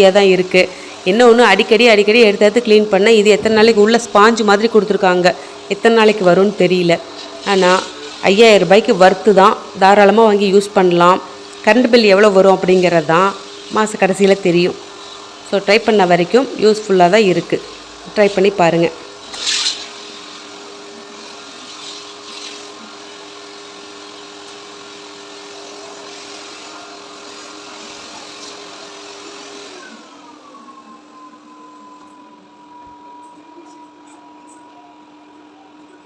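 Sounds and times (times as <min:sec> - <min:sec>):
vacuum cleaner motor running: 0:00.0 - 0:36.0.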